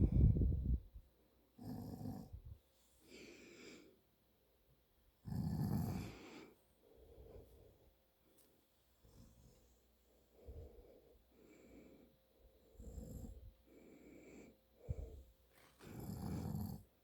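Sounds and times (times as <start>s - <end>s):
quiet breathing: 0.0s - 4.4s, 5.3s - 17.0s.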